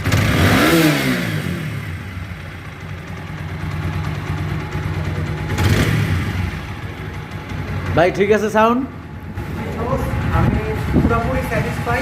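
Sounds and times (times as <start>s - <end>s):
motorcycle engine revving and idling: 0.0s - 12.0s.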